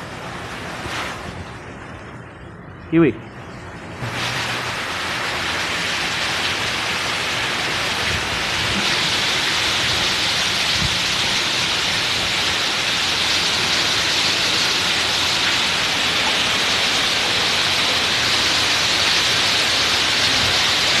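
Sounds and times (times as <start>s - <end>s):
heavy rain on water: 4.0s - 21.0s.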